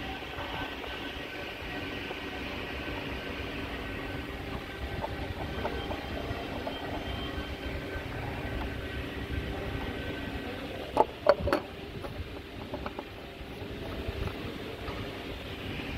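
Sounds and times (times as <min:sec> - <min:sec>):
low rumbling background noise: 0:00.0 - 0:15.9.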